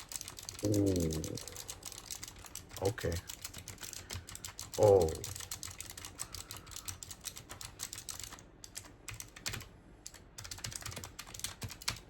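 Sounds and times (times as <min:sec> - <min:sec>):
typing on mechanical keyboard: 0:00.0 - 0:12.0.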